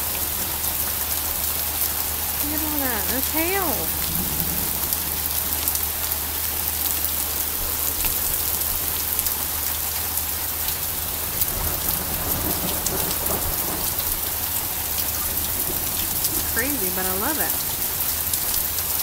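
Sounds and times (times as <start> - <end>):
hailstones ticking: 0.0 - 19.0
rain and hail hissing: 0.0 - 19.0.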